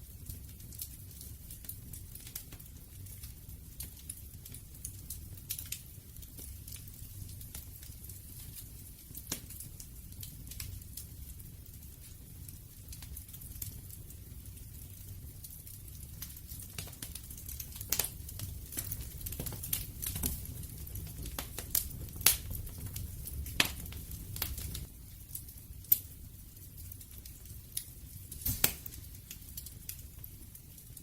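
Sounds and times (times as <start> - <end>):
low rumble of flame: 0.0 - 31.0
wood crackling and popping: 0.0 - 31.0.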